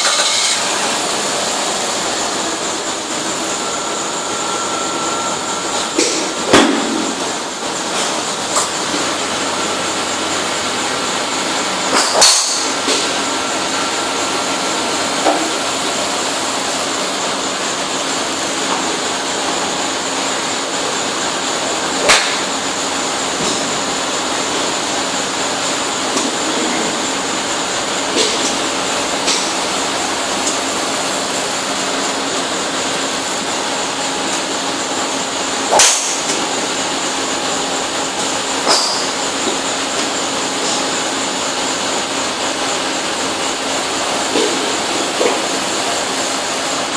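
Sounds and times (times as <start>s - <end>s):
steady background hum: 0.0s - 46.9s.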